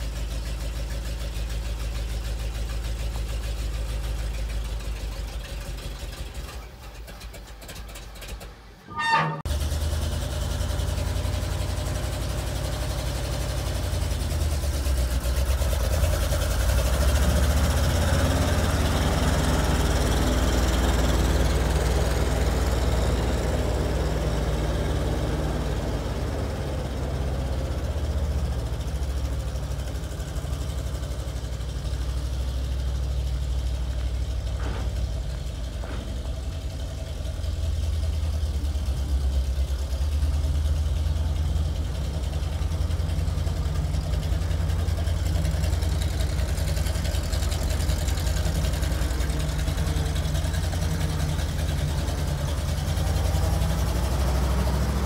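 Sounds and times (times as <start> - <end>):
deep truck engine running: 0.0 - 55.0
truck engine starting: 0.0 - 55.0.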